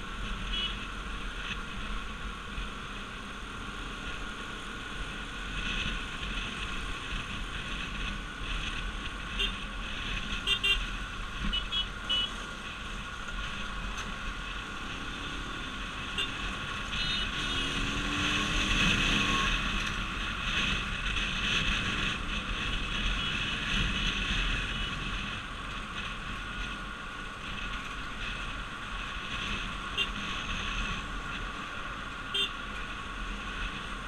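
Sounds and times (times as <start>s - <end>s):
motorcycle engine and wind: 0.0s - 34.0s.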